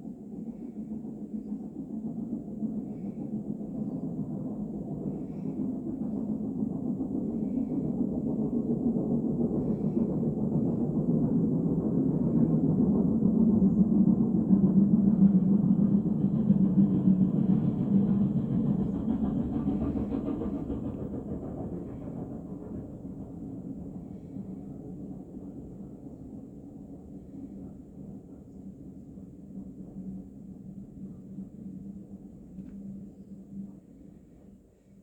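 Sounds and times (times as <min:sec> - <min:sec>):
steam locomotive rumbling: 0:00.0 - 0:35.0.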